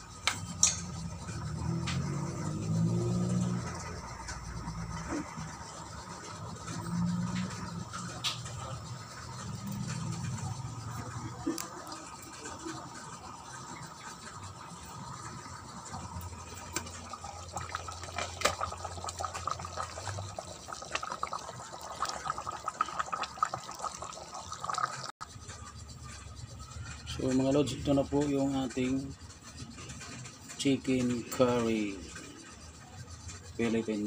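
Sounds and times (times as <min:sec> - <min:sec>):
curry bubbling in a pan: 0:00.6 - 0:33.6.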